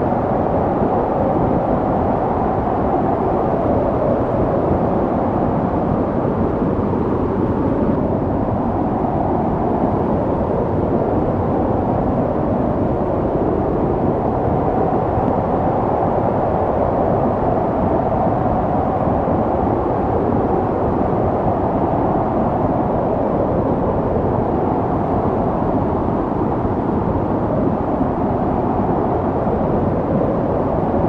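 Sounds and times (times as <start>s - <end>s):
storm wind blowing: 0.0s - 31.0s.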